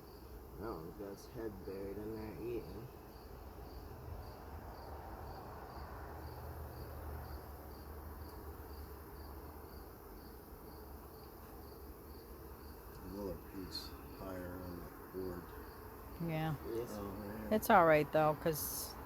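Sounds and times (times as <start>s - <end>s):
cricket chirping: 0.0s - 19.0s
honeybees humming: 0.0s - 19.0s.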